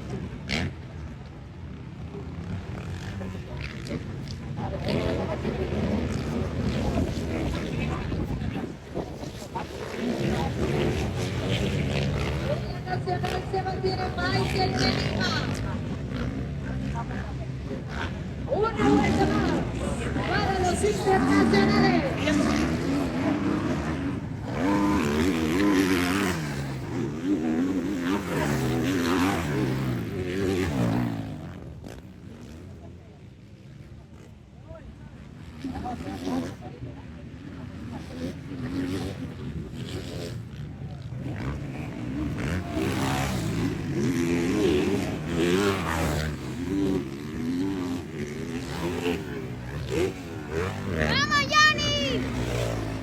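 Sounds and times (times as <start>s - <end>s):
motocross bike engines racing: 0.0s - 53.0s.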